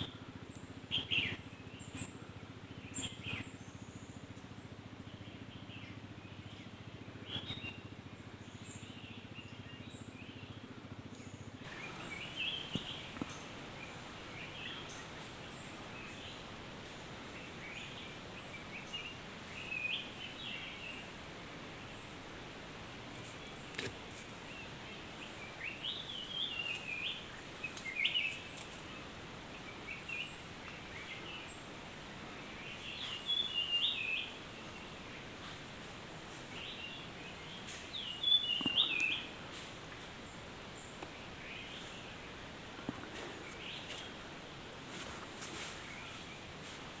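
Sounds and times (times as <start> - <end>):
songbird singing: 0.0 - 47.0
steady background noise: 0.0 - 47.0.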